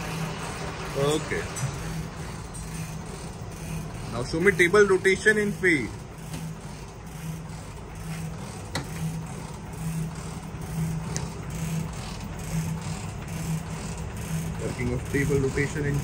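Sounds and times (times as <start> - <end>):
machine tool humming: 0.0 - 16.0.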